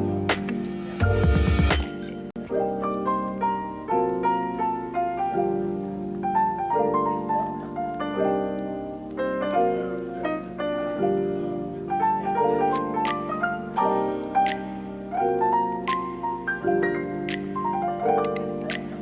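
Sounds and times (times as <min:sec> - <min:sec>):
gentle piano piece: 0:00.0 - 0:19.0.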